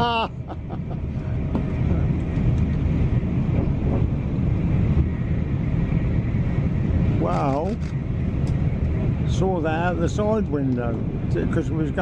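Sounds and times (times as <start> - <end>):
train running gear rumble: 0.0 - 12.0.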